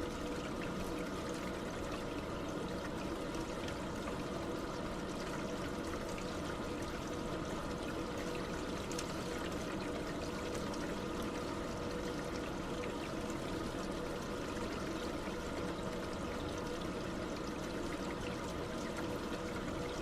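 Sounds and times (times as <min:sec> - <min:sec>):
liquid pouring: 0:00.0 - 0:20.0.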